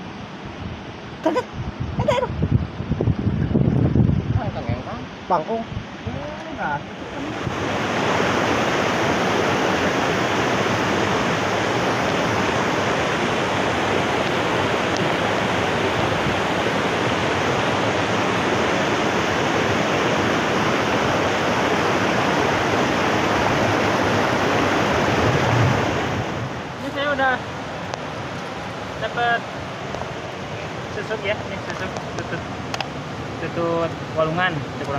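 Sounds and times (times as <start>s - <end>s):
river water rushing over rapids: 5.0s - 34.9s.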